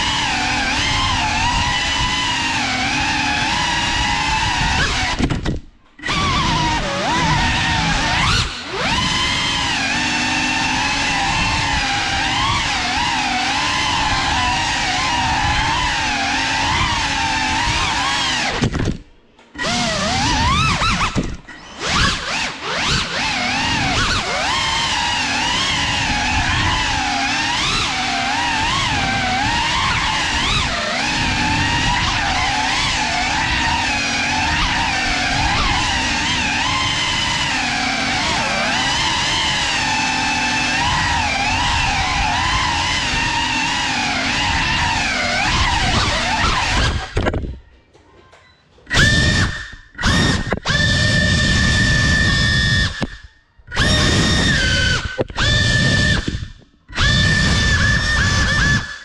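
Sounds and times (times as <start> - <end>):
drone motor whine: 0.0 - 47.4, 48.9 - 59.0.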